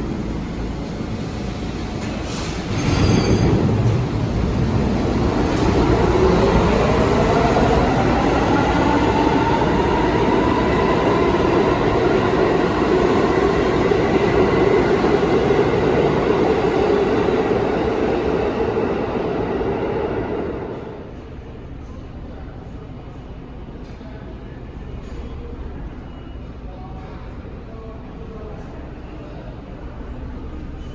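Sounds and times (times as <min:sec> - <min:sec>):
subway train running on track: 0:00.0 - 0:30.9.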